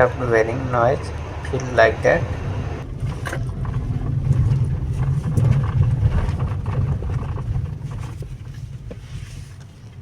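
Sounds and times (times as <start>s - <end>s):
low uneven steering rumble: 0.0s - 10.0s.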